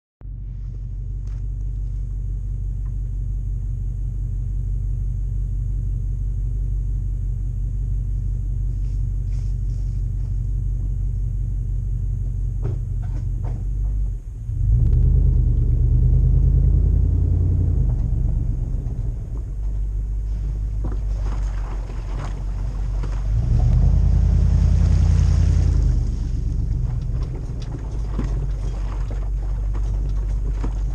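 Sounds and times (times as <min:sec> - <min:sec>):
car engine exhaust rumble: 0:00.2 - 0:30.9.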